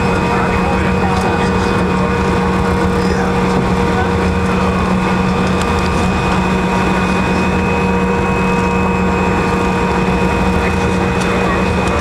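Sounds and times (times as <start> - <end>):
jet engines whining and humming: 0.0 - 12.0
steady rushing cabin noise: 0.0 - 12.0.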